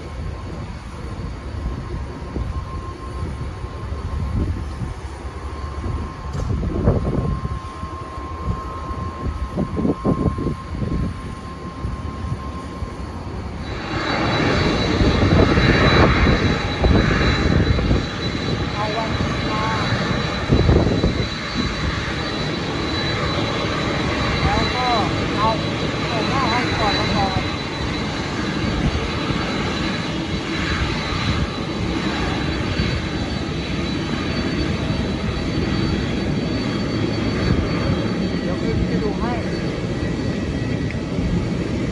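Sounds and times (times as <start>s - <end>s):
jet engine whine: 0.0s - 41.9s
jet engines rumbling: 0.0s - 41.9s.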